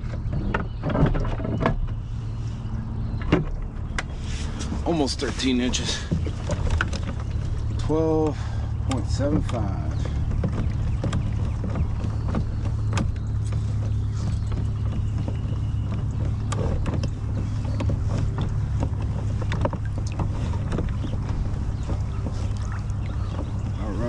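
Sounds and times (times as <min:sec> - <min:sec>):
gear knocking on hull: 0:00.0 - 0:24.0
low rumble: 0:00.0 - 0:24.0.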